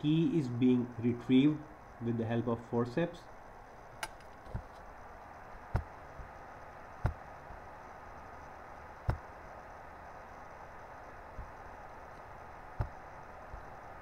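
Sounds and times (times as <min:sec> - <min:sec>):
faint room tone hiss: 0:00.0 - 0:14.0.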